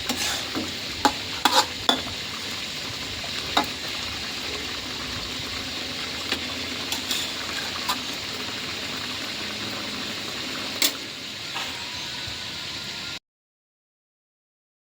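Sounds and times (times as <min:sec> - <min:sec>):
curry bubbling in a pot: 0:00.0 - 0:13.1.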